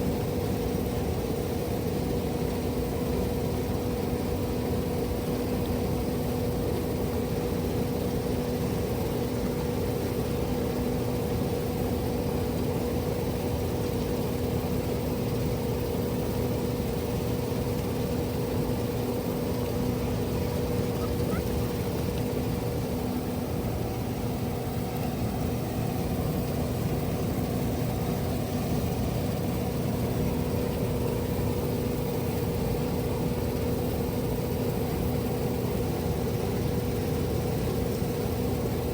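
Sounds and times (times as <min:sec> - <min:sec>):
machinery hum: 0:00.0 - 0:38.9.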